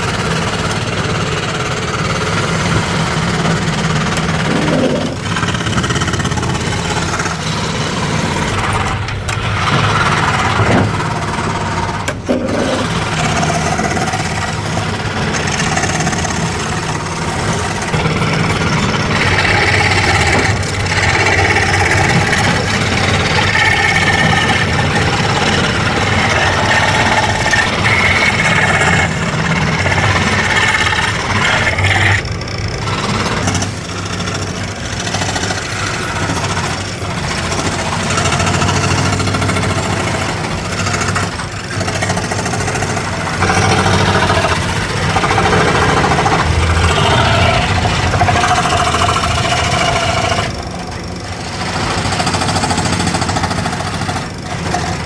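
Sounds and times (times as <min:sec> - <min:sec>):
high machine whine: 0:00.0 - 0:55.0
low motor hum: 0:00.0 - 0:55.0.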